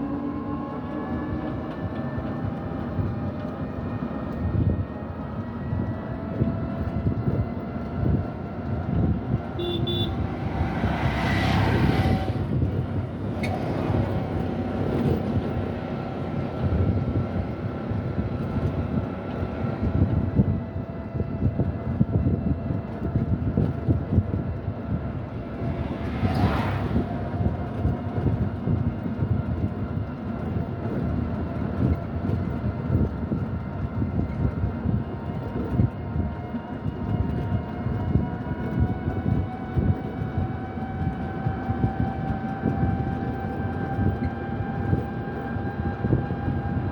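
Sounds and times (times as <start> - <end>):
moving vehicle rumble: 0.0 - 46.9.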